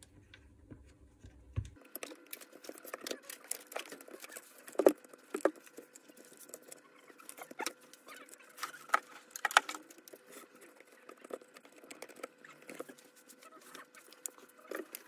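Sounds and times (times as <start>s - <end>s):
wires and plastic housing handled: 1.2s - 15.0s.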